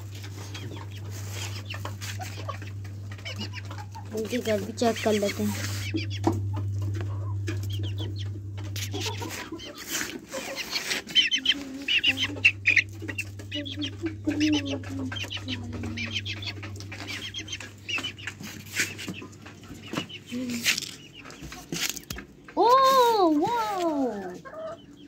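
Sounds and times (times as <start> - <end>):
chickens clucking: 0.0 - 25.0
steady low hum: 0.0 - 25.0
high repeated chicken calls: 0.1 - 25.0.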